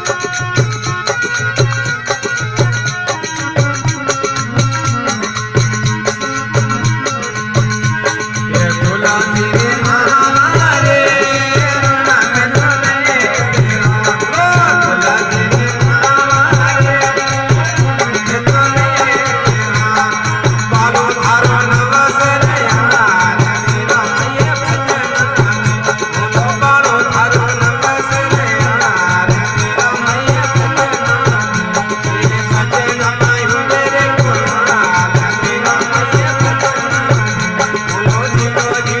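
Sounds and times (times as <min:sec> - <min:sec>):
driving drum beat: 0:00.0 - 0:39.0
folk music: 0:00.0 - 0:39.0.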